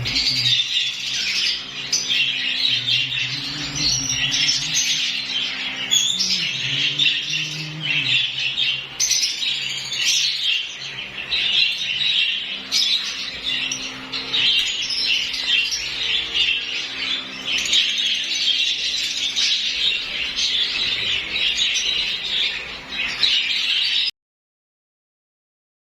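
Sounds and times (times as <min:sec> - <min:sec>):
lovebirds chattering and squawking: 0:00.0 - 0:24.1.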